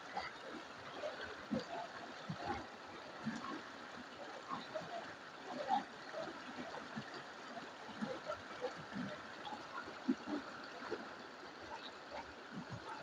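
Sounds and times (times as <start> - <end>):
stream flowing over stones: 0.0 - 13.0
water gurgles: 0.0 - 13.0.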